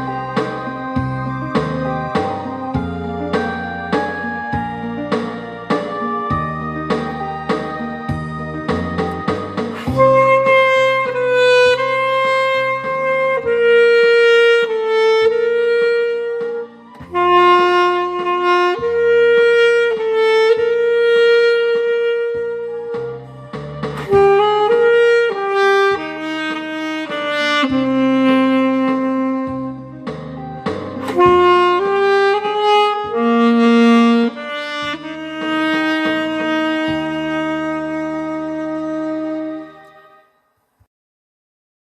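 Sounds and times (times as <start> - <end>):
low accompaniment: 0.0 - 40.3
alto saxophone melody: 0.0 - 40.5.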